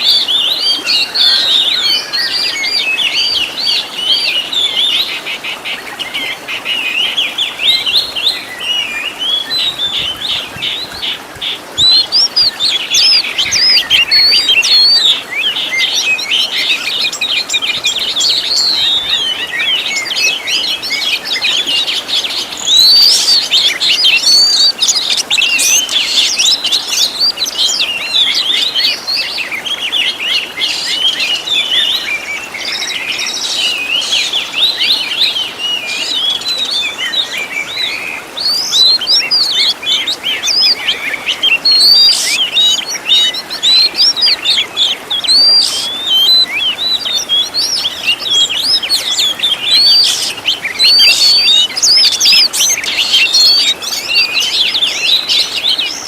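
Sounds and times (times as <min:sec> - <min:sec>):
bird singing rapid chirps and trills: 0:00.0 - 0:56.0.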